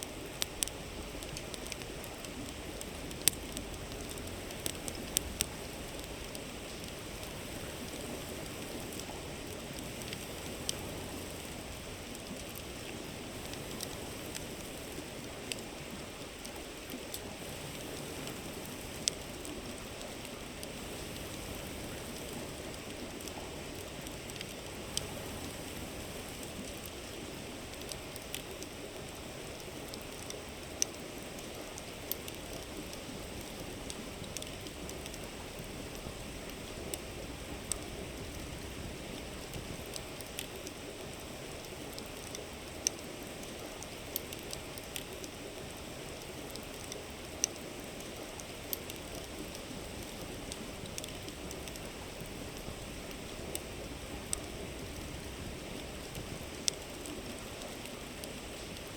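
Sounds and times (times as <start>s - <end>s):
wood campfire crackling: 0.0s - 58.9s.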